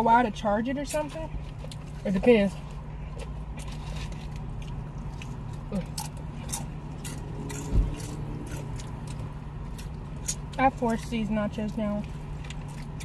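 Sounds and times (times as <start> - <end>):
low hum inside car: 0.0 - 13.0
chewing and biting fried chicken: 1.0 - 13.0.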